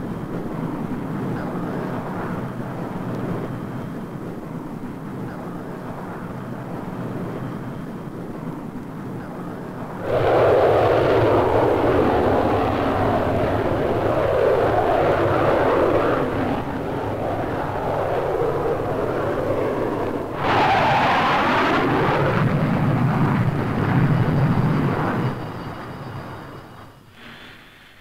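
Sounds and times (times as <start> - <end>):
jet flying overhead: 0.0 - 27.6
high-pitched jet whine: 0.0 - 28.0.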